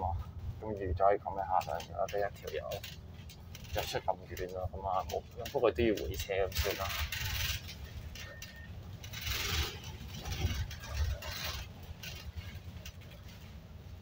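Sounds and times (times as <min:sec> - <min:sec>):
bus rumbling: 0:00.0 - 0:14.0.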